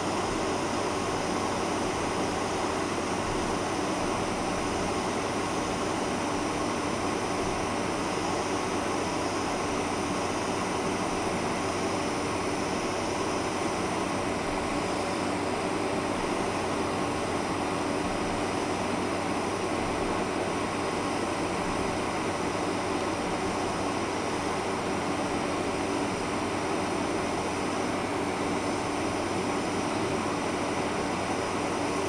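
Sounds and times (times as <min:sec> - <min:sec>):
air-conditioning hiss: 0:00.0 - 0:32.0
jet engine hum: 0:00.0 - 0:32.0.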